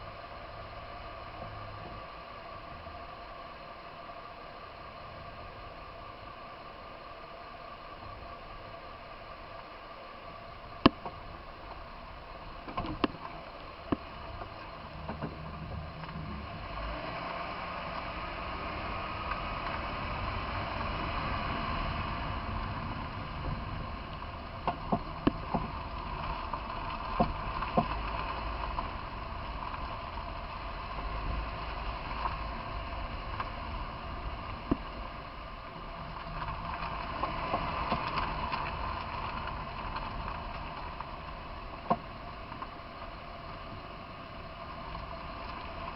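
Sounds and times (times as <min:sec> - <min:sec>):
running mechanical noise: 0:00.0 - 0:45.9.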